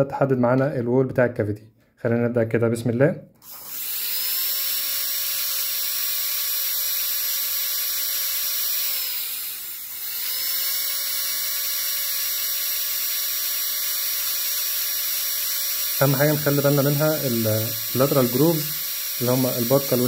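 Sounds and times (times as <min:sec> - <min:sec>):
dental drill whining: 0:03.4 - 0:20.0.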